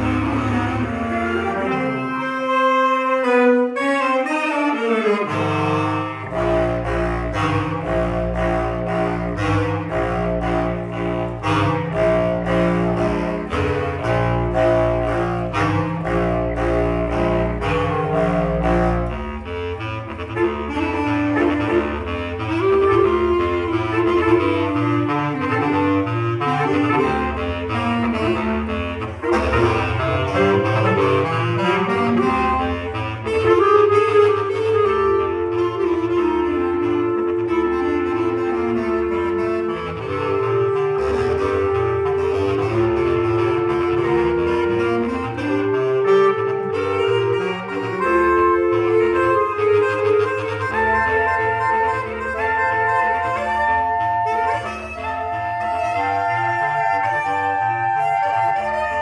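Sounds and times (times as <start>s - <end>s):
bass clarinet quartet playing: 0.0s - 59.0s.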